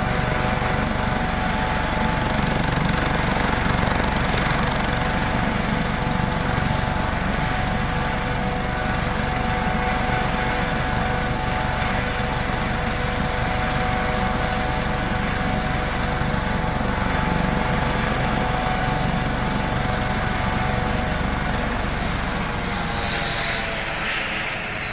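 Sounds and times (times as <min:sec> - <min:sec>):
helicopter rotor beat: 0:00.0 - 0:24.9
turbine whine: 0:00.0 - 0:24.9.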